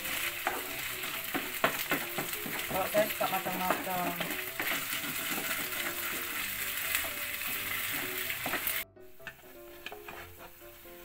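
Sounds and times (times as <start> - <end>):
meat sizzling in frying pan: 0.0 - 11.0
spatula scraping pan: 0.0 - 11.0.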